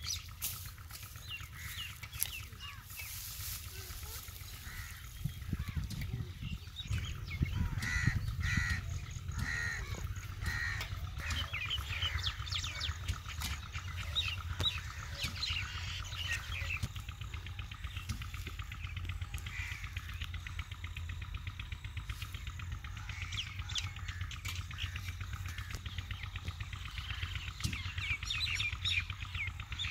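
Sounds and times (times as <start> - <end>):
fast rhythmic bird chatter: 0.0 - 29.9
steady low rumble: 0.0 - 29.9
bird caws: 0.8 - 21.0, 21.9 - 29.9.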